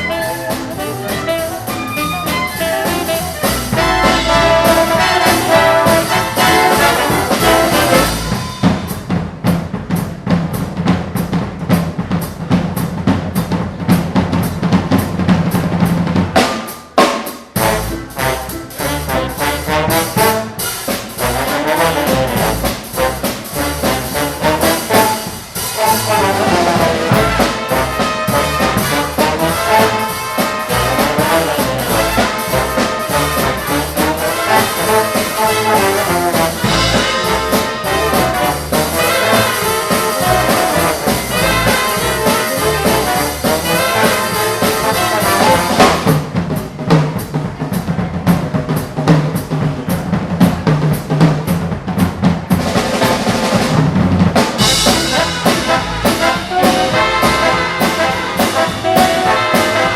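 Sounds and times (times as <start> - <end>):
rapid drum strokes: 0.0 - 59.9
swing big band playing: 0.0 - 59.9.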